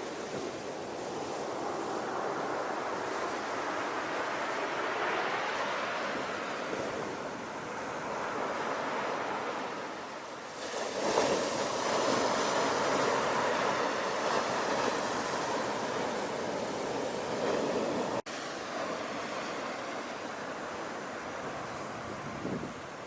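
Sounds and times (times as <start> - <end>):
sea waves breaking on shore: 0.0 - 23.0.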